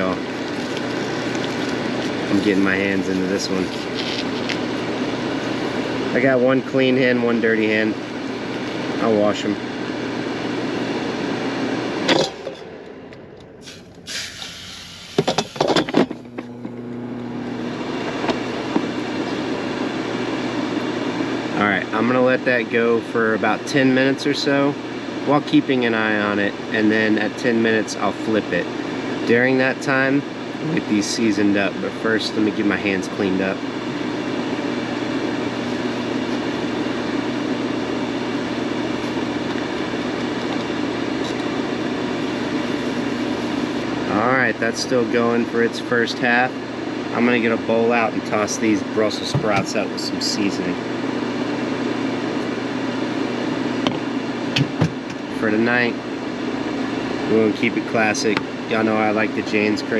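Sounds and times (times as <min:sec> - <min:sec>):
air fryer fan humming: 0:00.0 - 0:59.9.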